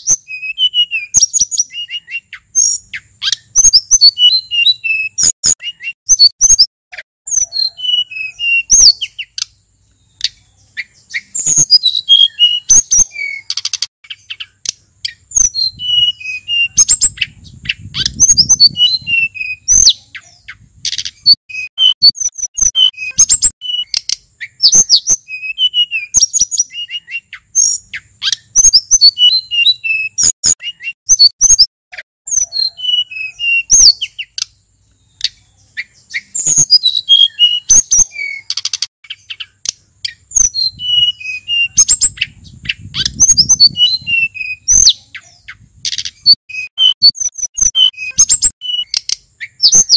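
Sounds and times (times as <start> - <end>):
songbird whistling: 0.0 - 6.7, 7.3 - 31.7, 32.3 - 49.9.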